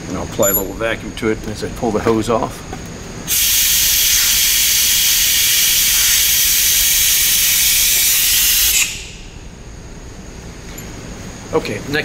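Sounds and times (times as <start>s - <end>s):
brake bleeder hissing: 0.0s - 12.0s.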